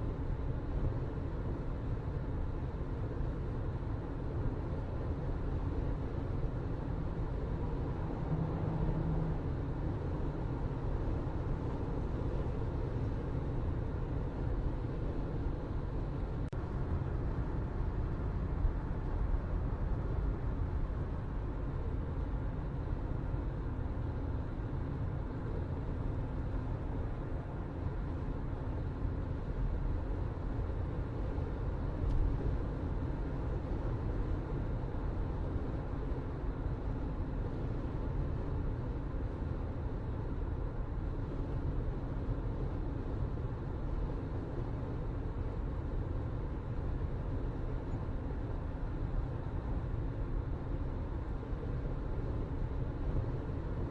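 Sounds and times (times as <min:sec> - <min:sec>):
faint constant hum: 0:00.0 - 0:53.9.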